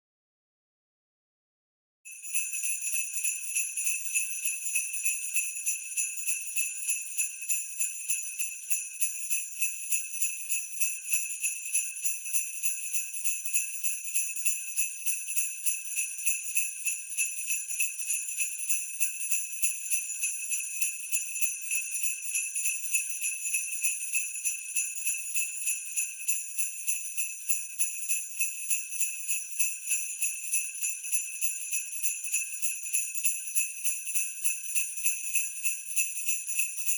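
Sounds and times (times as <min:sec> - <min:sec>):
sleigh bells jingling: 0:02.1 - 0:36.9.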